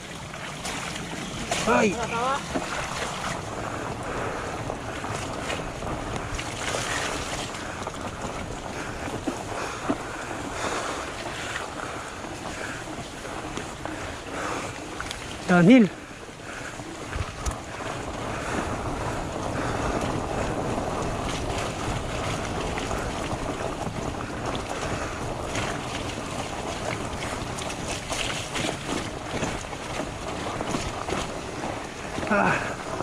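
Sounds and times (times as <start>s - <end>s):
bike tyres rumbling on dirt: 0.0s - 33.0s
wind rushing over microphone: 0.8s - 33.0s.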